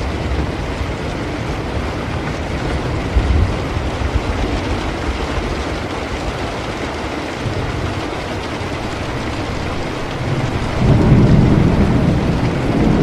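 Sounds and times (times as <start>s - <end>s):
heavy rain: 0.0s - 13.0s
distant thunder rumble: 2.6s - 13.0s.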